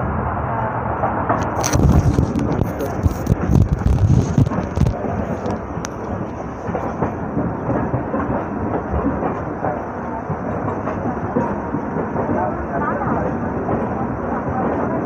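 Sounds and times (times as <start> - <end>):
train wheels rumbling and clattering: 0.1 - 15.0.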